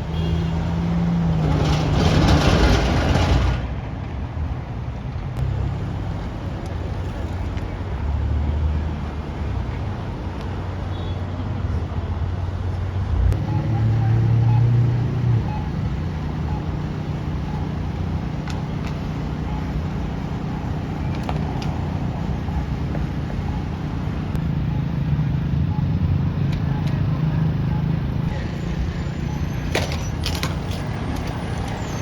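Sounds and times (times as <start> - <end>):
vehicle engines humming: 0.0 - 32.0.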